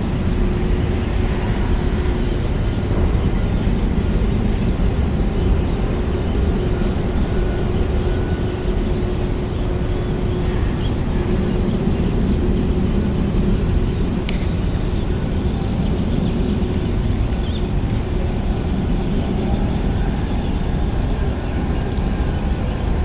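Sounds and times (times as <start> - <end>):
distant machinery rumble: 0.0 - 23.0
faint hum: 0.0 - 23.0.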